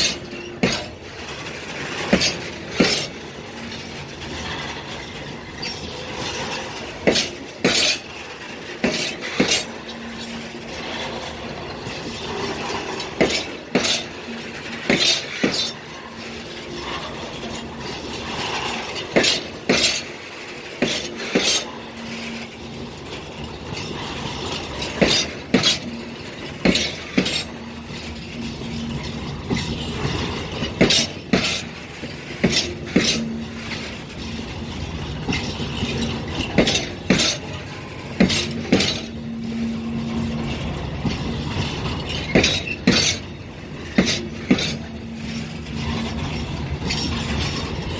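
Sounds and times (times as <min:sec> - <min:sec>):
train running noise: 0:00.0 - 0:47.9
train wheels clacking over rail joints: 0:00.0 - 0:47.9.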